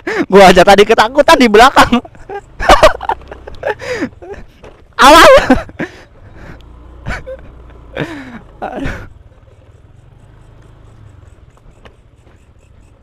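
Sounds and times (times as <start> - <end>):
crickets chirping: 0.0 - 13.0
motorcycle engine running: 0.8 - 13.0.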